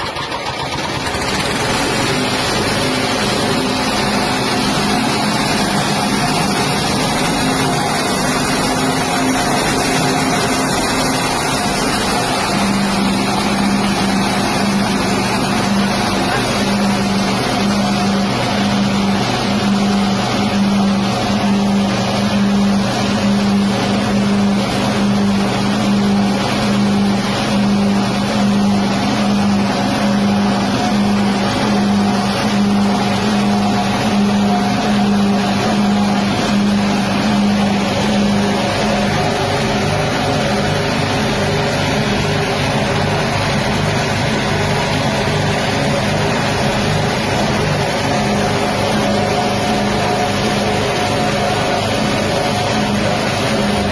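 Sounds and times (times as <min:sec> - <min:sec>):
grinding mill noise: 0:00.0 - 0:53.9
petrol engine hum: 0:00.0 - 0:53.9.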